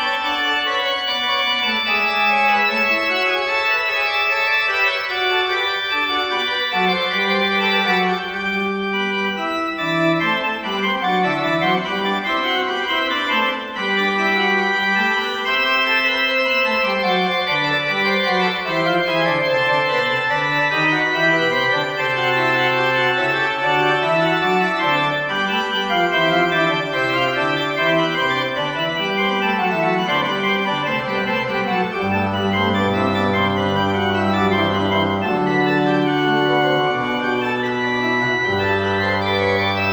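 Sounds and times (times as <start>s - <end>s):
organ playing slow chords: 0.0s - 39.9s.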